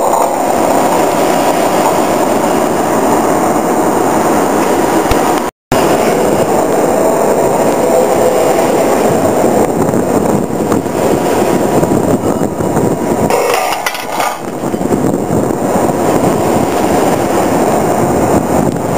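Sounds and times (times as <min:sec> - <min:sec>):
drilling rig machinery din: 0:00.0 - 0:18.7.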